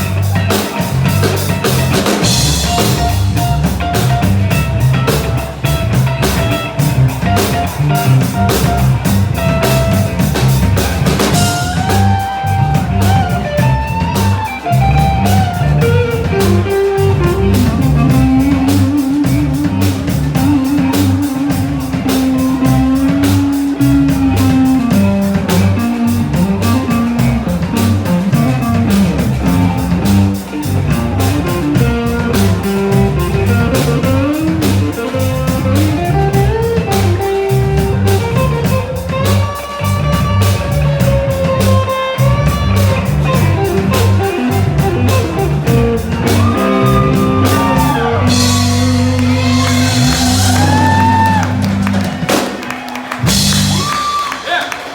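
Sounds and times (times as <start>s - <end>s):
electric guitar lead line: 0.0s - 54.3s
bass guitar: 0.0s - 54.4s
drum kit: 0.0s - 54.9s.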